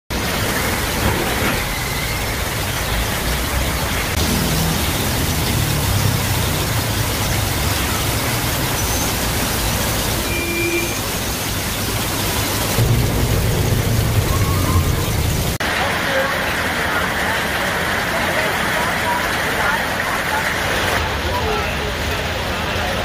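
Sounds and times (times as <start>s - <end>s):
bus and car engines: 0.1s - 10.2s, 11.5s - 23.0s
heavy rain: 0.1s - 23.0s.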